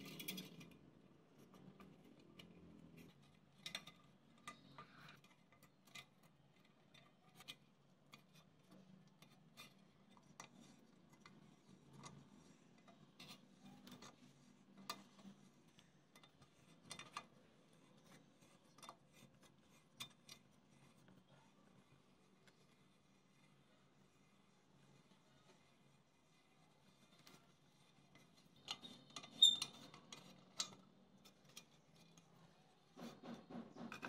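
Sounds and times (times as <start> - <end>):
faint metallic clicks and ticks: 0.0 - 34.0.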